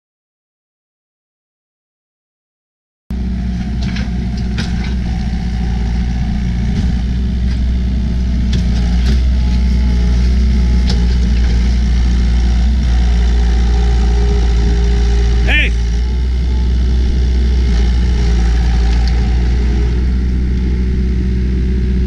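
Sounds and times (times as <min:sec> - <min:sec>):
diesel engine running: 0:03.1 - 0:22.0.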